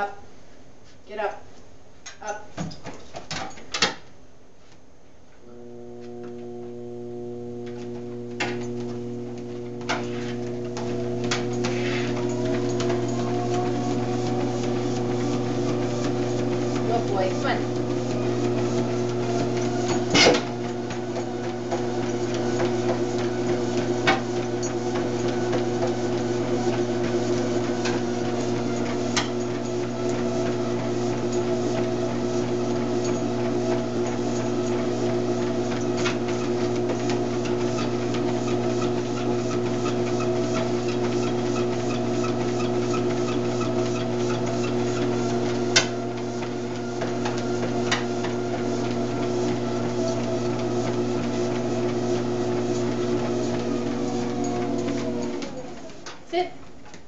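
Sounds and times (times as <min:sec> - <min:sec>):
dog paws striking treadmill deck: 0:02.6 - 0:04.0, 0:07.6 - 0:57.0
treadmill motor hum: 0:05.3 - 0:57.0.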